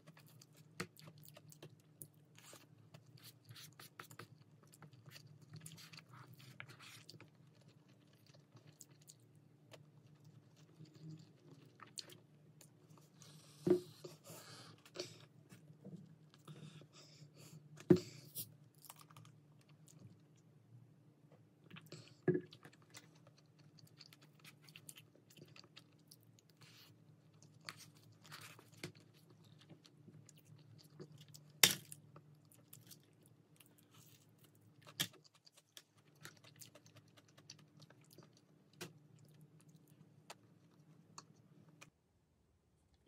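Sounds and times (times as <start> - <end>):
chewing: 0.0 - 17.0, 21.6 - 41.9
faint low hum: 0.0 - 43.0.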